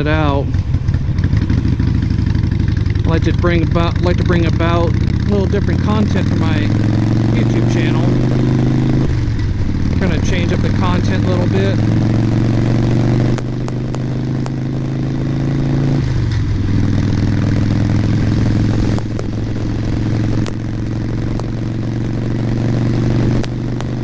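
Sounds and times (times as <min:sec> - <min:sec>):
microphone popping and crackling: 0:00.0 - 0:24.0
motorcycle engine running: 0:00.0 - 0:24.0.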